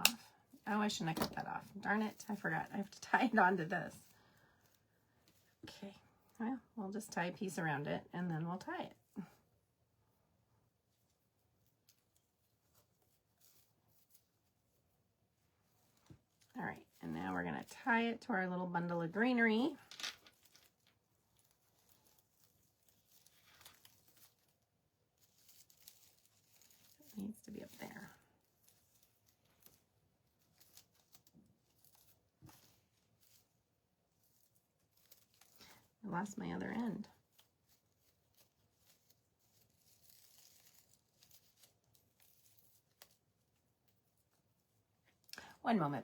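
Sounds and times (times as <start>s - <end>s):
faint rustles of ribbon: 0.0s - 46.0s.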